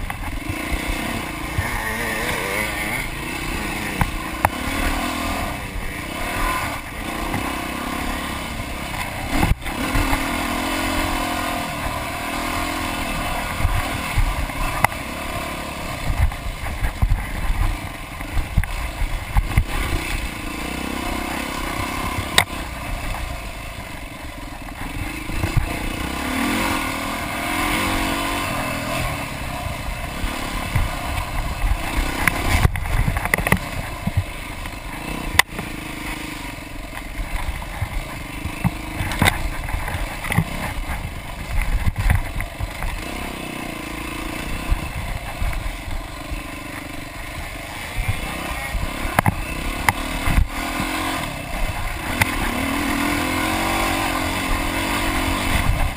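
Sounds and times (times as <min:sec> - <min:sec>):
bike knocks and rattles: 0:00.0 - 0:55.9
dirt bike engine revving: 0:00.0 - 0:55.9.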